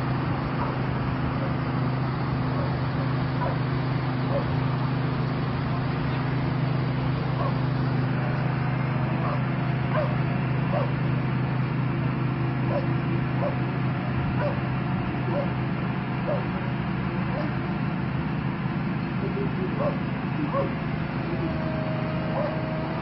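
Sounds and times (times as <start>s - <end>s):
fire engines droning: 0.0s - 23.0s.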